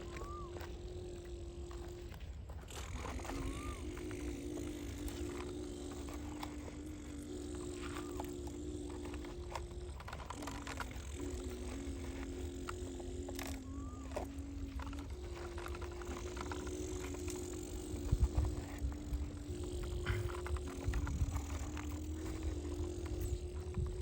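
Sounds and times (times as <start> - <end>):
scattered clicks: 0.0 - 24.0
toy electric motor whine: 0.0 - 24.0.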